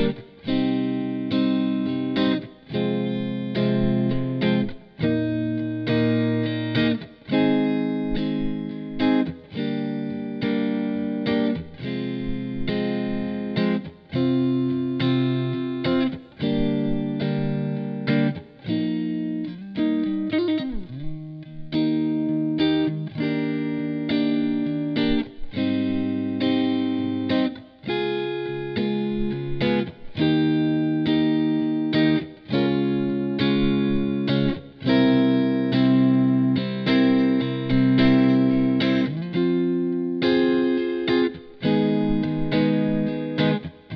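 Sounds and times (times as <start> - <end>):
electric guitar strumming chords: 0.0 - 43.9.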